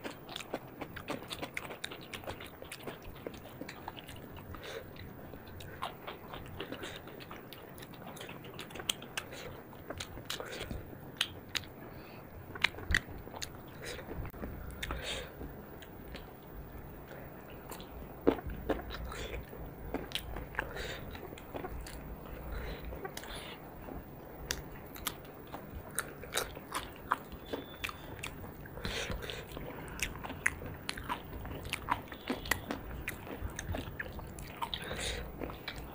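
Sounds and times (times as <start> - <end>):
chewing and biting: 0.0 - 16.4, 17.1 - 35.9.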